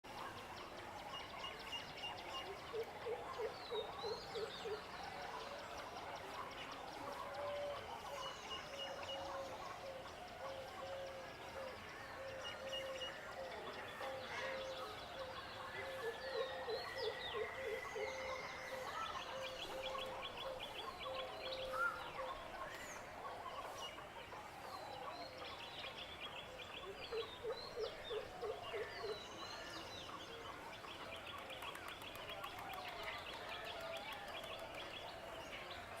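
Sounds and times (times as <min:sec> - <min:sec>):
birds chirping and trilling: 0:00.1 - 0:36.0.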